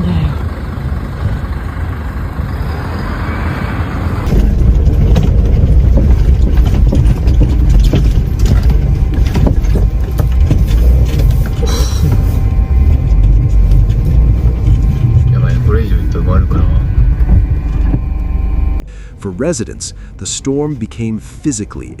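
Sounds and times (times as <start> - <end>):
heavy low rumble: 0.0 - 22.0
road vehicles rumbling: 0.0 - 22.0.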